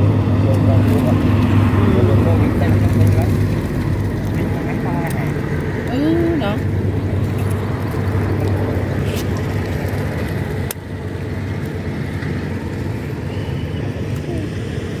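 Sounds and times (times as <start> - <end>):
low motor drone: 0.0 - 15.0.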